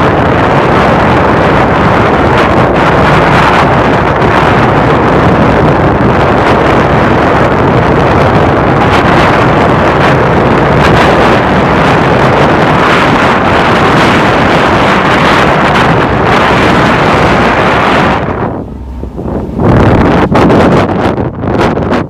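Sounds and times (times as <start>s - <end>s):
boat engines running: 0.0s - 22.0s
wind buffeting microphone: 0.0s - 22.0s.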